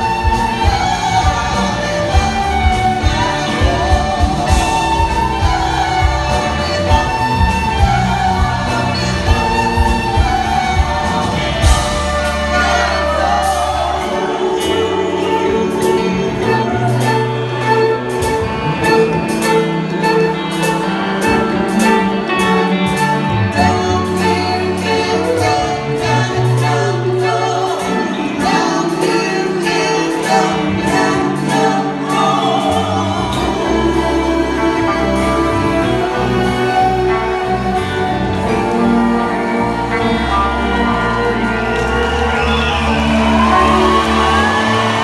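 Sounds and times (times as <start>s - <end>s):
voices singing together: 0.0s - 18.0s, 18.7s - 45.0s
live band playing: 0.0s - 45.0s.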